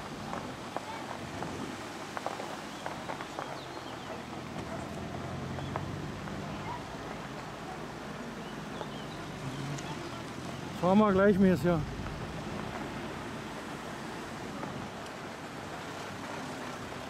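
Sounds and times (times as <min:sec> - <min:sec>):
distant voices: 0:00.0 - 0:17.0
low engine hum: 0:00.0 - 0:17.0.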